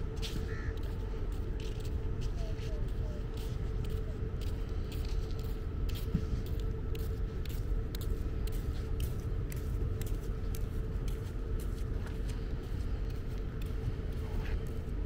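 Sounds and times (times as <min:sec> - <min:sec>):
faint hum: 0:00.0 - 0:15.0
footsteps on pavement: 0:00.0 - 0:15.0.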